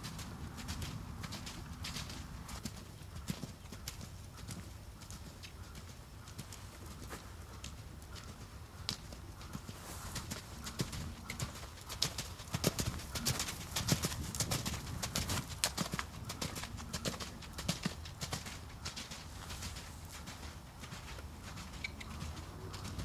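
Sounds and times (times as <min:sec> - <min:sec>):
horse hoofbeats on dirt: 0:00.0 - 0:23.0.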